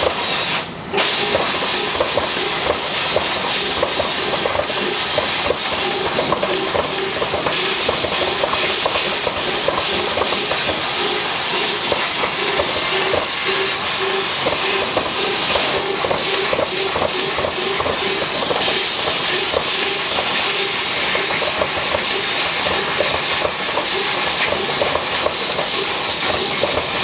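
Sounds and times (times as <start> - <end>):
laser cutter hissing: 0.0 - 27.0.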